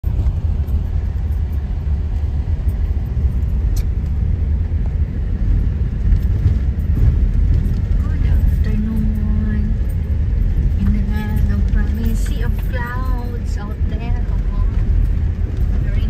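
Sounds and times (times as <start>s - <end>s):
car driving on dirt road: 0.0s - 16.0s.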